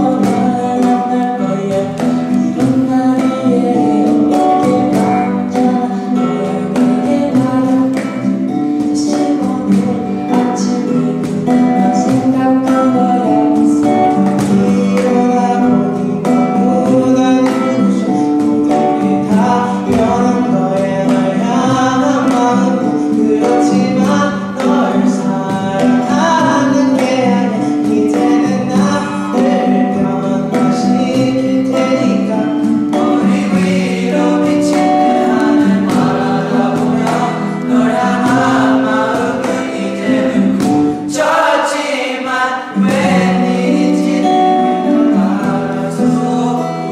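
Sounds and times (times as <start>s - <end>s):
instrumental accompaniment: 0.0s - 46.9s
vocal group singing in chorus: 0.0s - 46.9s.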